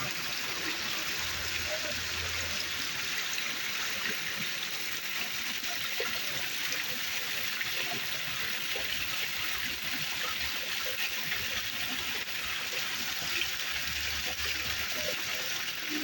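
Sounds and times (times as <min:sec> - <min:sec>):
water pouring over waterfall: 0:00.0 - 0:16.0.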